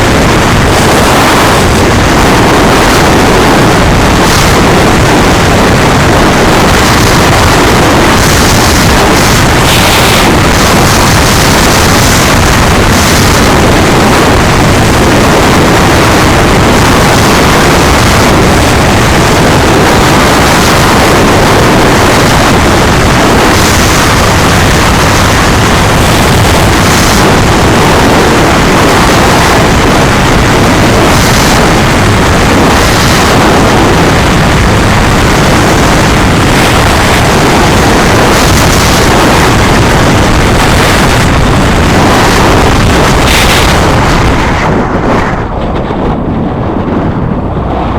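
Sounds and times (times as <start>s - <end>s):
vehicle engine: 0.0s - 47.9s
wind noise: 0.0s - 47.9s.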